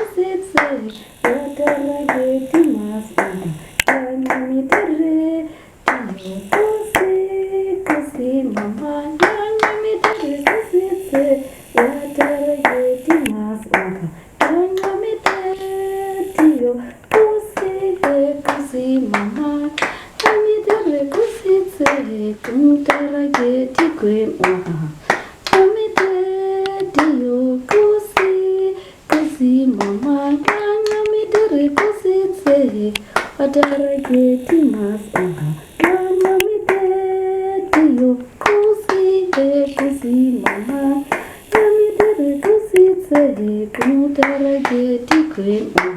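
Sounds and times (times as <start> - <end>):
sharp hand claps: 0.0 - 5.1, 5.8 - 7.2, 7.8 - 28.5, 29.1 - 37.1, 37.7 - 45.9
person singing with held notes: 0.0 - 45.9.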